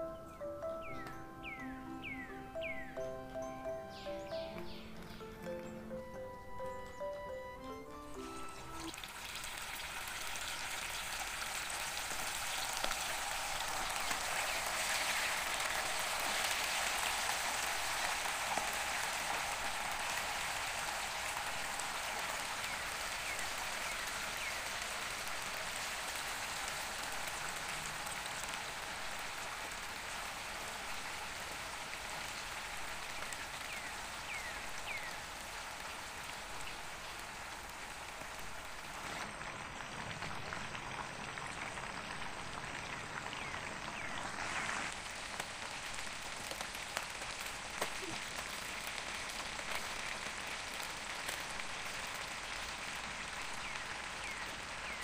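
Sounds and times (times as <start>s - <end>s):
chicken deep-frying in oil: 8.2s - 55.0s.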